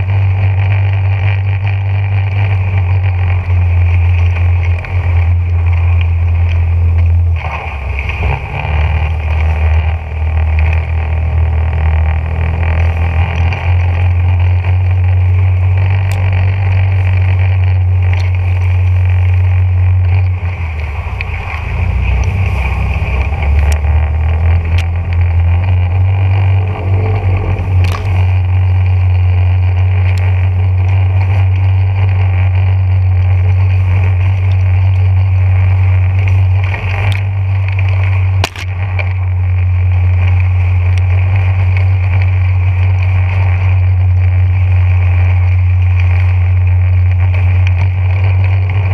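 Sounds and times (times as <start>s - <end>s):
boat motor running: 0.0s - 48.9s.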